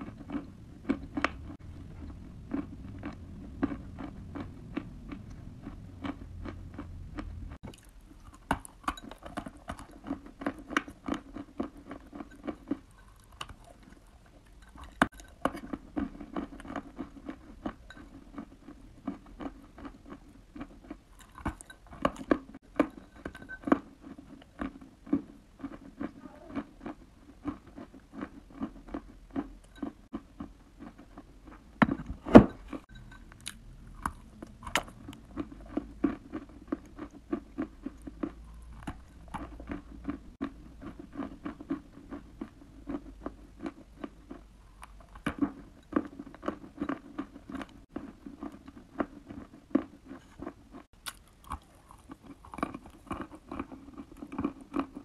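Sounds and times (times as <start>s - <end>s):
chewing soft clay crunches: 0.0s - 31.8s, 32.6s - 55.0s.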